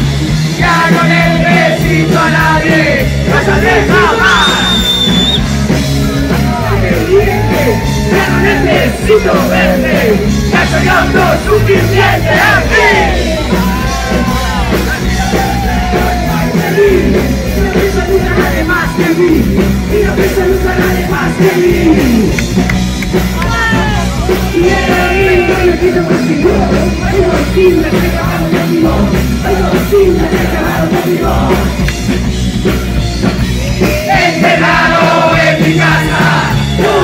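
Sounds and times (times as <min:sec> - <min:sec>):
punk rock band playing live: 0:00.0 - 0:37.0.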